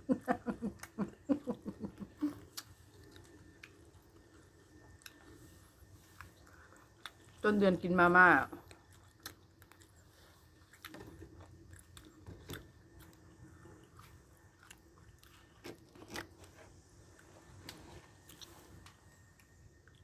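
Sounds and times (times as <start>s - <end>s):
person chewing food: 0.0s - 7.4s, 8.6s - 20.0s.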